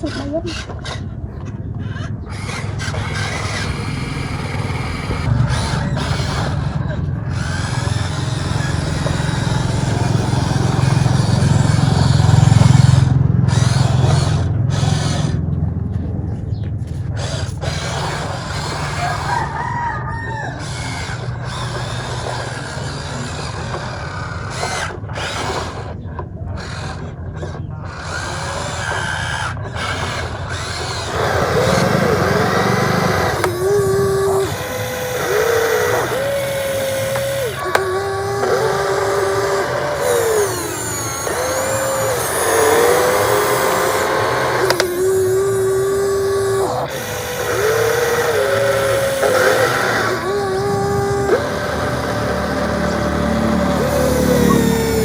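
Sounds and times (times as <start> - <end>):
toy excavator motors running: 0.0 - 55.0.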